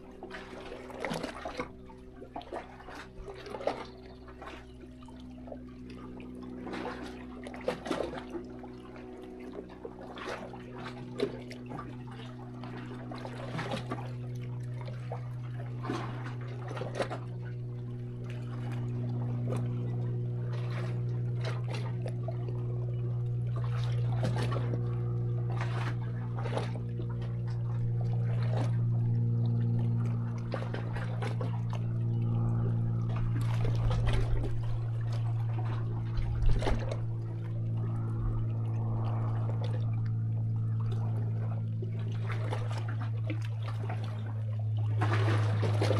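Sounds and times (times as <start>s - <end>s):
steady low hum: 0.0s - 45.9s
waves lapping against rocks: 0.0s - 45.9s.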